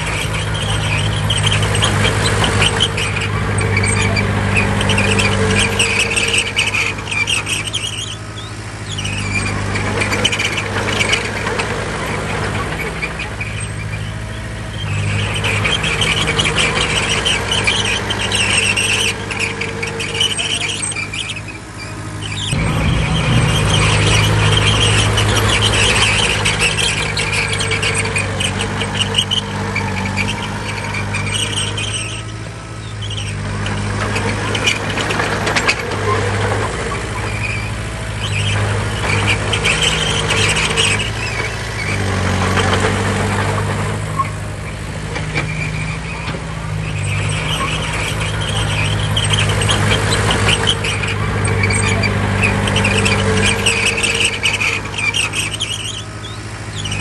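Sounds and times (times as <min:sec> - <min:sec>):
diesel engine running: 0:00.0 - 0:57.0
high squeal: 0:00.0 - 0:57.0.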